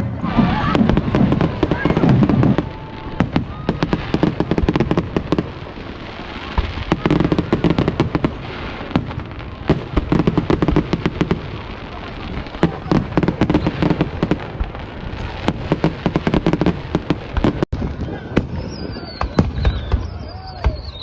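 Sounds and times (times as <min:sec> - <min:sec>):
fireworks cracking and banging: 0:00.0 - 0:21.0.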